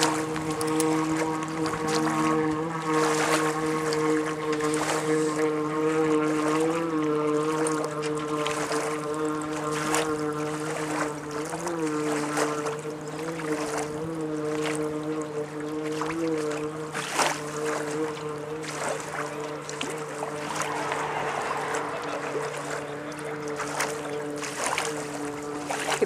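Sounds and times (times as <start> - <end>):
boat engine running: 0.0 - 26.0
water splashing against hull: 0.0 - 26.0.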